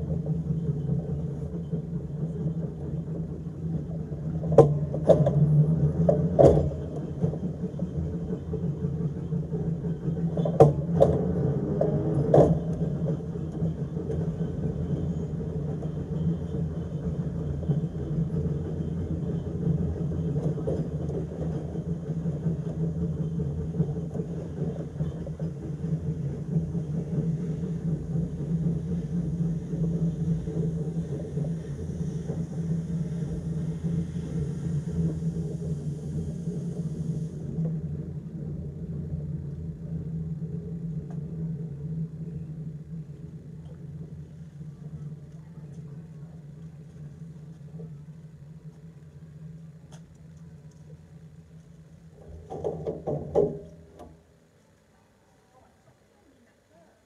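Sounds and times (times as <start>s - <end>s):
electric tram humming: 0.0s - 56.8s.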